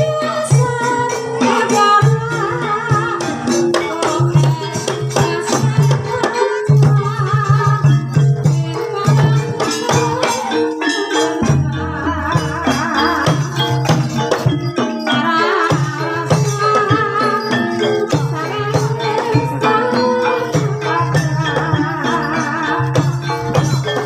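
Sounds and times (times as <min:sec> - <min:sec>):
pitched gamelan notes: 0:00.0 - 0:24.0
wavering melody line: 0:00.0 - 0:24.0.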